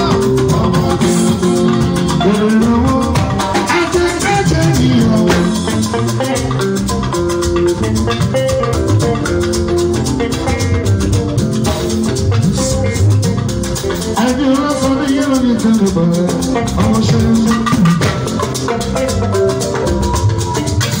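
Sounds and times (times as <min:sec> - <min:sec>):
drums: 0:00.0 - 0:21.0
live band music: 0:00.0 - 0:21.0.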